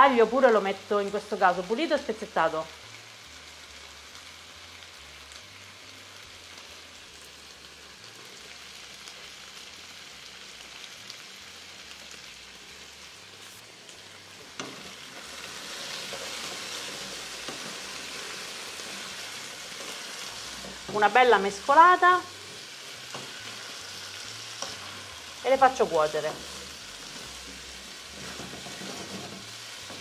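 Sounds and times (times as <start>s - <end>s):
potatoes sizzling in a pan: 0.0s - 30.0s.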